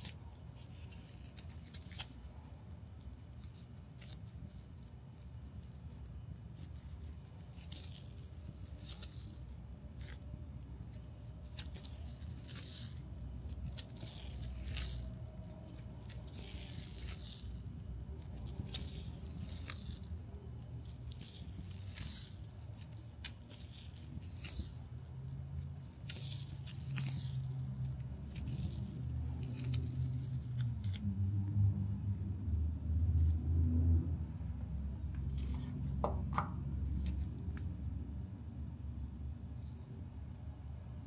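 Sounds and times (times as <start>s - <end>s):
low steady hum: 0.0s - 41.0s
tape peeling and rubbing: 0.0s - 41.0s.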